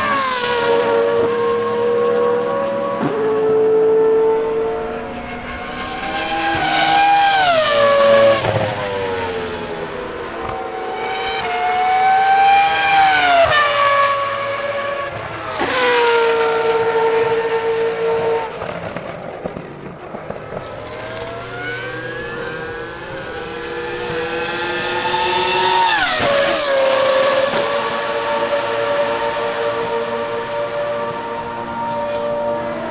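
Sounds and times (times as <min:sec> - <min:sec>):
racing car engine at high revs: 0:00.0 - 0:32.9.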